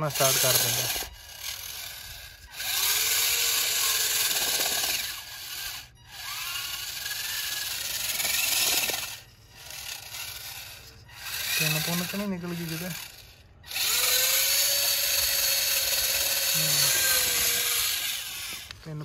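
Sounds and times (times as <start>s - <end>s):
electric motor and gears whining: 0.0s - 19.0s
wheels churning in sand: 0.0s - 19.0s.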